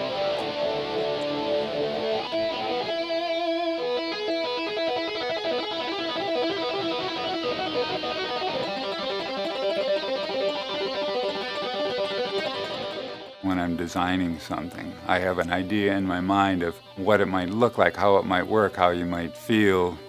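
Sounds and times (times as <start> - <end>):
electric guitar music: 0.0 - 20.0.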